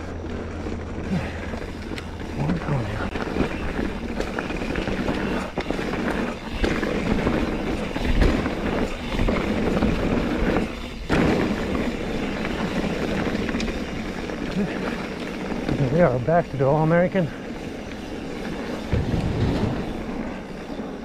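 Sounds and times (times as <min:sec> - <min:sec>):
bike rattling: 0:00.0 - 0:21.0
bike tyre noise: 0:00.0 - 0:21.0.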